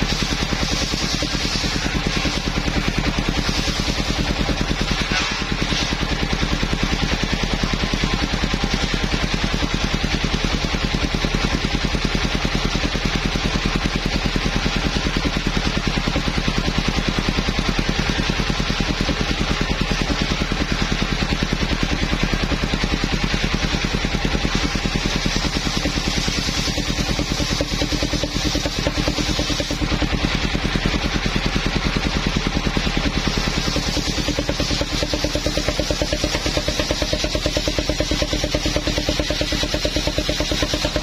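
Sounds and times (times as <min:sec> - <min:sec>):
sawmill engine running: 0:00.0 - 0:41.0.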